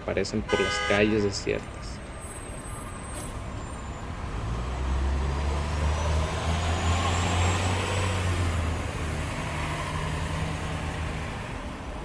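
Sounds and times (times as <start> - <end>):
city background noise: 0.0 - 12.0.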